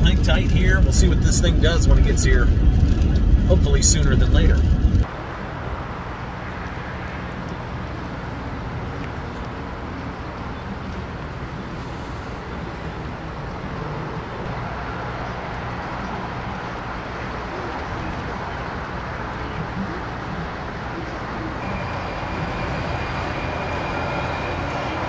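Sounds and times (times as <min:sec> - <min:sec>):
wind noise: 0:00.0 - 0:20.7
low engine hum: 0:00.0 - 0:25.0
traffic rumble: 0:00.0 - 0:25.0.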